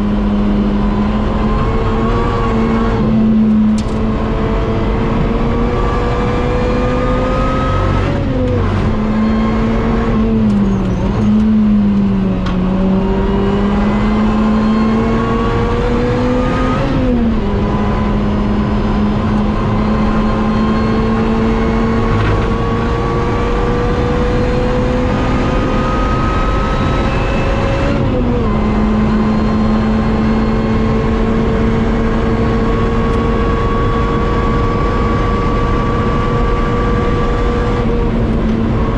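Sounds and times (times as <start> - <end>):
car engine at full throttle: 0.0 - 38.9.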